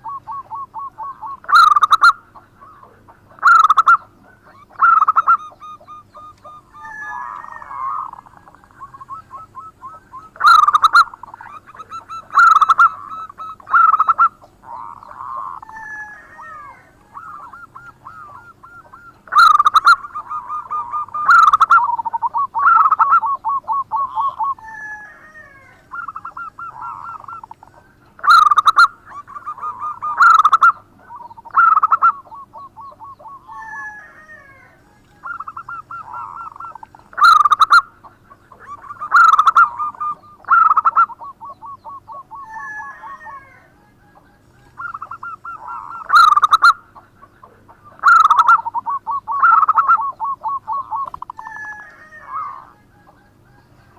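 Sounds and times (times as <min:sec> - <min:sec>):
dove cooing and trilling: 0:00.0 - 0:53.9.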